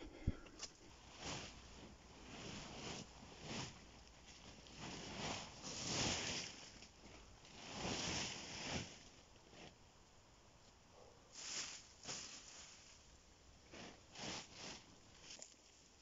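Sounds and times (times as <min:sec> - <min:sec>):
dry leaves and twigs rustling: 0:00.6 - 0:09.2, 0:11.3 - 0:16.0.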